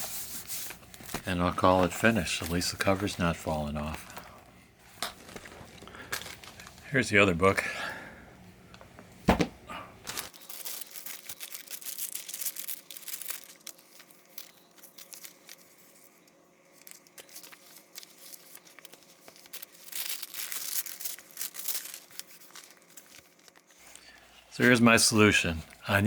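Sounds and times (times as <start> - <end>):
paper rustling and crinkling: 0.0 - 4.3, 4.9 - 6.8, 10.0 - 26.0.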